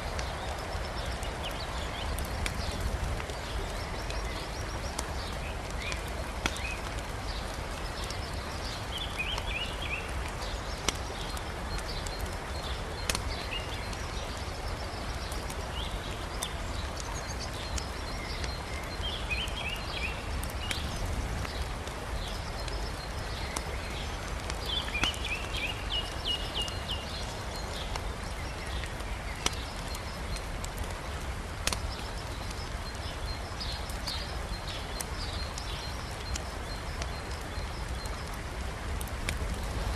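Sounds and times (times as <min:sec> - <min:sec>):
campfire crackling: 0:00.0 - 0:39.9
river rushing: 0:00.0 - 0:39.9
burning logs popping: 0:00.1 - 0:19.1, 0:20.3 - 0:32.7, 0:33.6 - 0:39.9.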